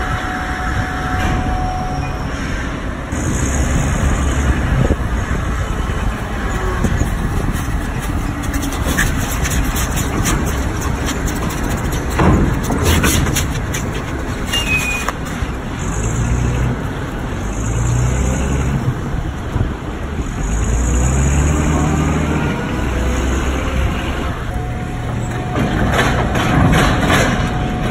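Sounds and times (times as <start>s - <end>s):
forklift engine running: 2.9s - 27.9s.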